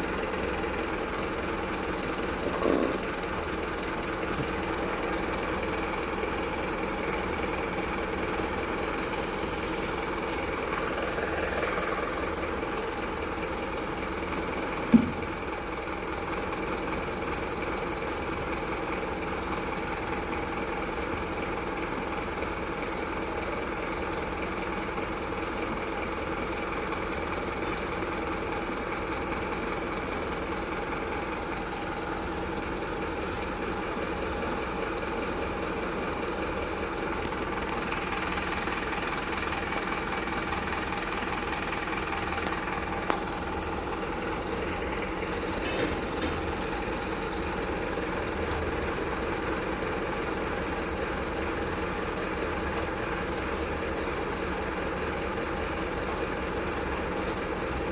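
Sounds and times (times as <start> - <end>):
truck engine idling: 0.0 - 57.9.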